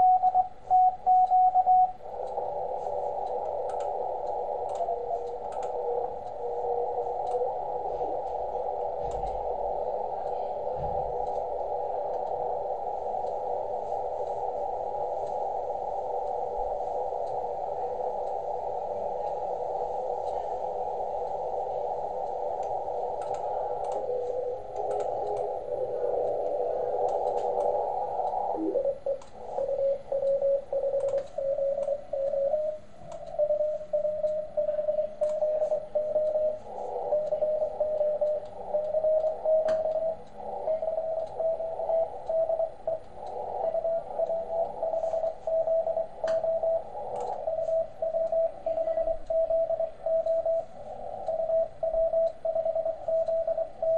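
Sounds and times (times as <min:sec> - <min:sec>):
morse code beeps: 0:00.0 - 0:53.9
radio receiver hiss: 0:00.0 - 0:53.9.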